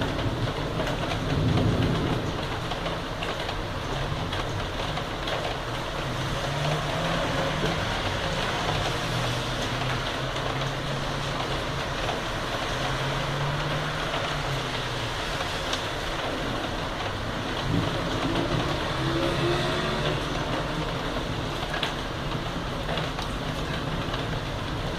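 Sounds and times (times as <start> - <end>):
heavy rain falling: 0.0 - 24.9
vehicle engine humming: 3.8 - 24.9.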